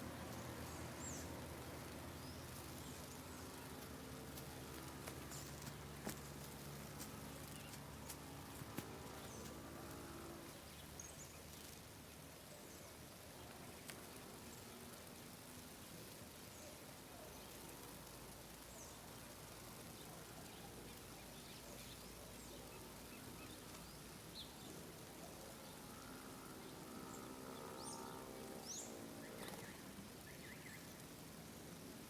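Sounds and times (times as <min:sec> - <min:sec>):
low multi-tone hum: 0:00.0 - 0:32.0.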